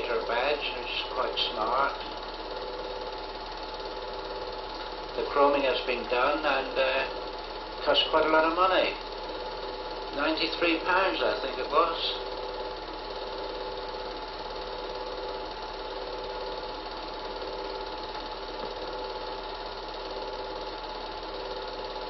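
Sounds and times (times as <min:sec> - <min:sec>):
film projector whirring: 0:00.0 - 0:22.0.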